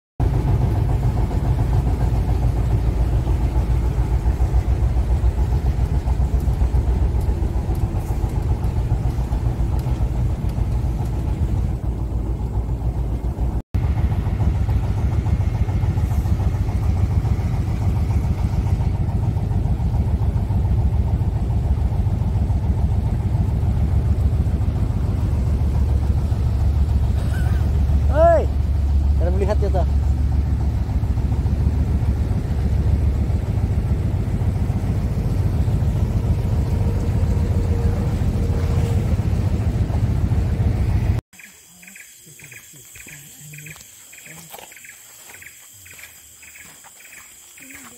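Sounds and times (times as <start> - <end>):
boat engine droning: 0.2 - 41.2.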